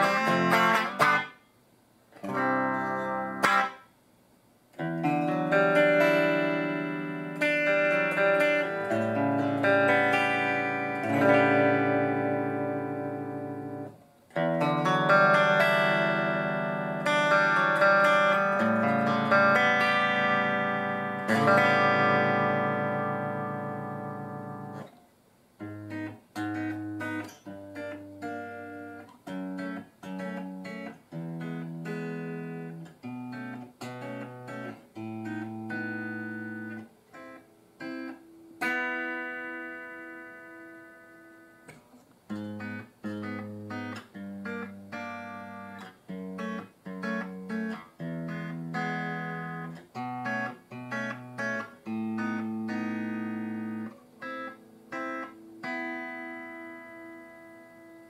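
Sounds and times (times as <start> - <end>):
clean electric guitar chords: 0.0 - 1.4, 2.2 - 3.8, 4.8 - 24.9, 25.6 - 58.0.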